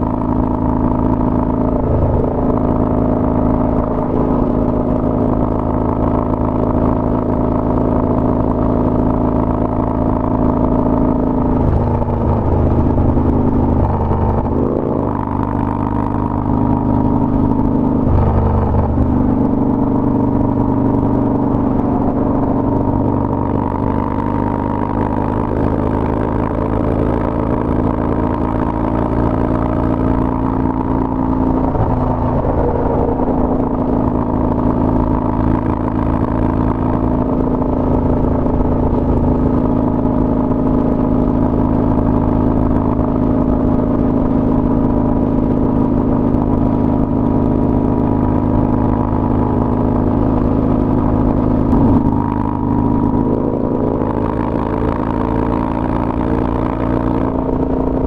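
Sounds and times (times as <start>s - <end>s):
motorcycle engine at speed: 0.0s - 58.0s.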